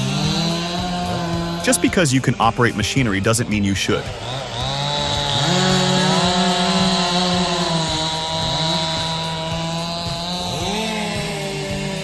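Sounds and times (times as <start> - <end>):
motor saw cutting wood: 0.0 - 12.0.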